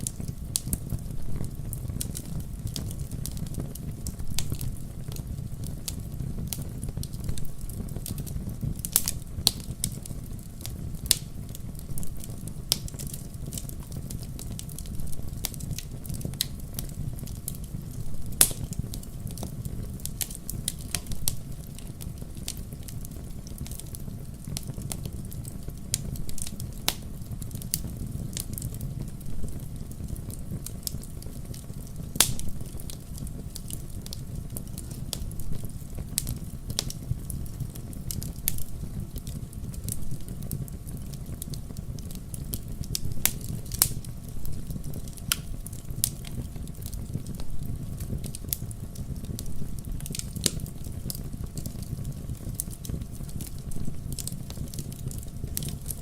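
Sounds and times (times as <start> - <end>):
fire crackling with pops and snaps: 0.0 - 56.0
low rumble of flames: 0.0 - 56.0.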